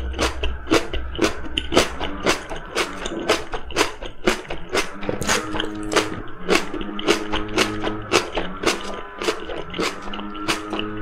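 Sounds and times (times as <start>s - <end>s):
close-up chewing: 0.0s - 11.0s.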